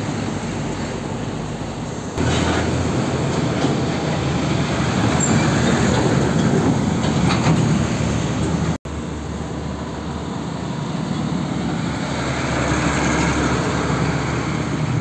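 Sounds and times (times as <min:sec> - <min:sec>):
diesel truck passing: 0:00.0 - 0:15.0.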